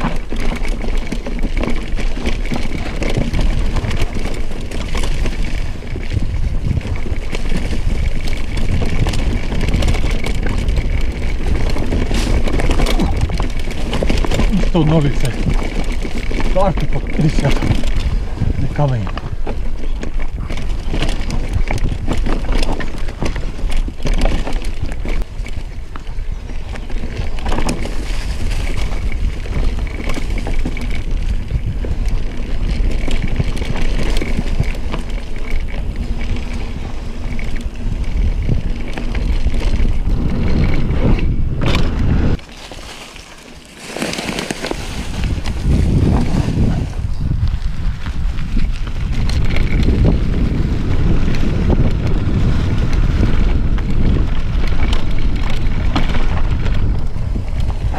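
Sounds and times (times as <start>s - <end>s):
wind on microphone: 0.0s - 43.0s, 44.3s - 57.9s
bike rattling on stony trail: 0.0s - 57.9s.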